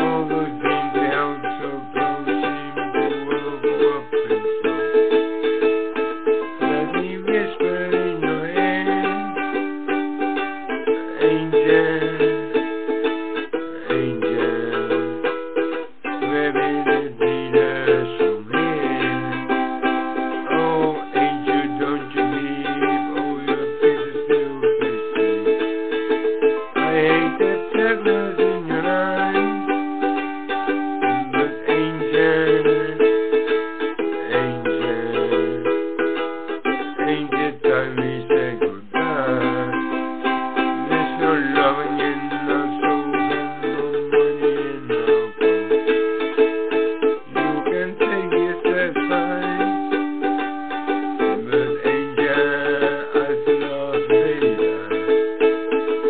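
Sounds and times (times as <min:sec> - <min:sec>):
instrumental plucked tune: 0:00.0 - 0:56.0.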